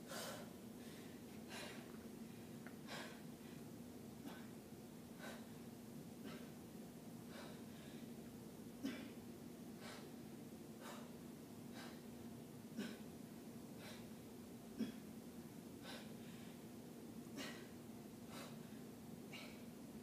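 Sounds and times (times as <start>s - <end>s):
woman breathing heavily: 0.0s - 13.1s, 13.7s - 15.1s, 15.8s - 19.8s
steady low hum: 0.0s - 20.0s.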